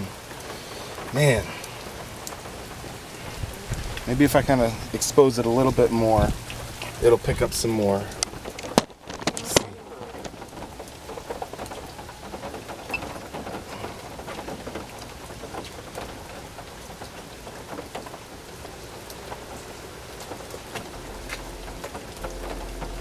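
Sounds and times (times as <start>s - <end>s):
heavy rain falling: 0.0s - 23.0s
raindrops ticking on surface: 0.0s - 23.0s.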